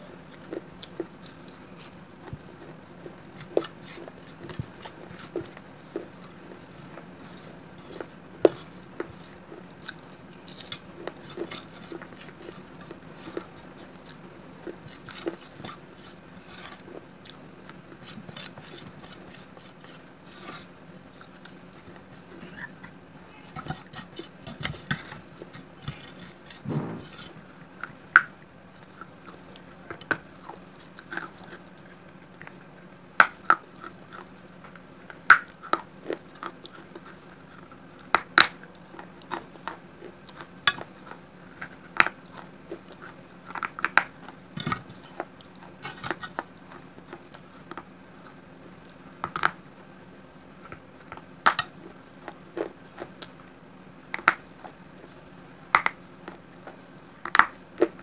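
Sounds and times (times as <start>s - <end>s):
crunching and chewing clay: 0.0s - 58.0s.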